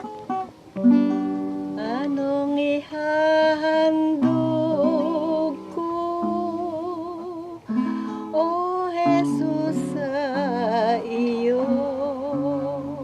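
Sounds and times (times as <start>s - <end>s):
acoustic guitar: 0.0s - 13.0s.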